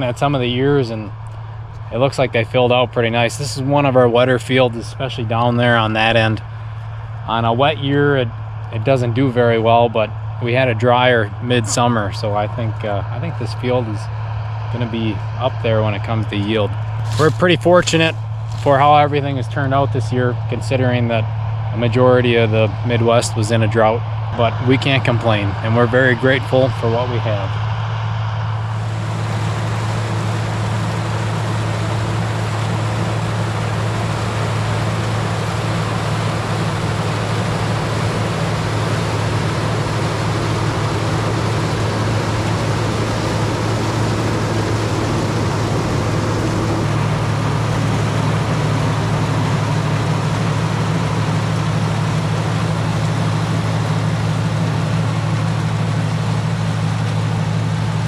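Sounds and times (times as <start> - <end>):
machinery rattle and clatter: 0.0 - 58.0
tractor engine droning: 0.0 - 58.0.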